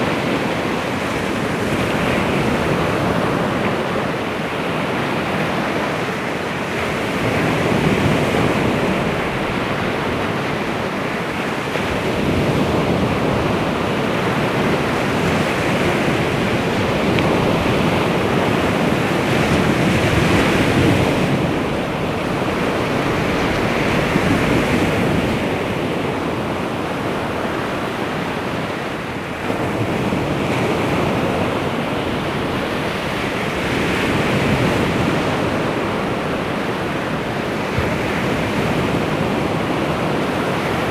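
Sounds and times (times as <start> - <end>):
waves washing onto shore: 0.0 - 40.9.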